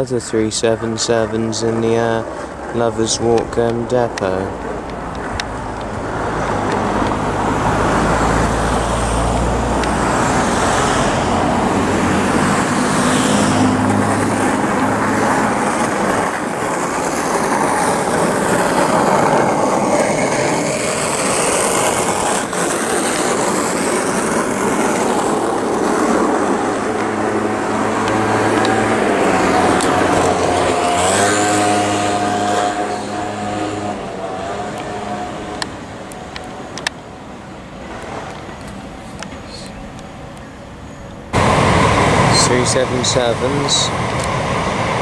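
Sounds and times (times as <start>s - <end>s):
train wheels rumbling on rail: 0.0s - 40.5s, 41.1s - 45.0s.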